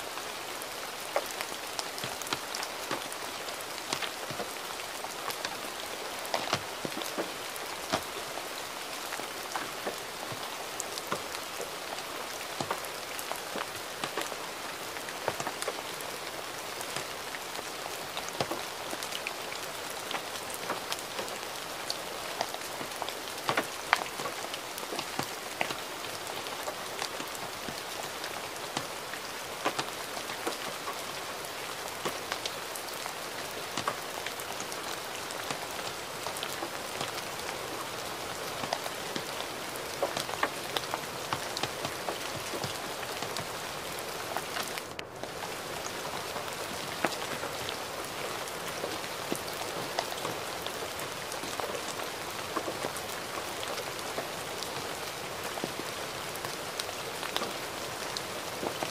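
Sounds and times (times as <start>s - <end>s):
gentle rain hiss: 0.0s - 58.9s
raindrops ticking: 0.1s - 58.9s.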